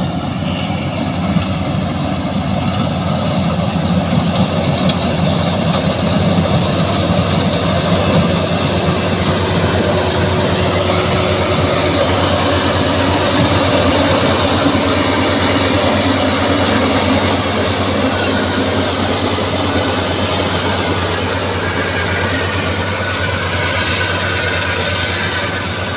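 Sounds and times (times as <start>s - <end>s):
combine harvester engine running: 0.0s - 25.9s.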